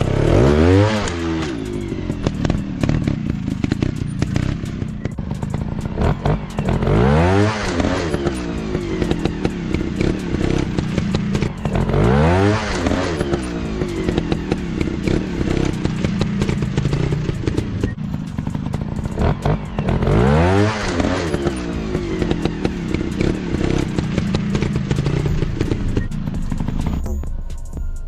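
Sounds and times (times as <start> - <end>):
motorcycle engine revving: 0.0 - 27.7
sharp clicks and clatter: 0.0 - 27.7.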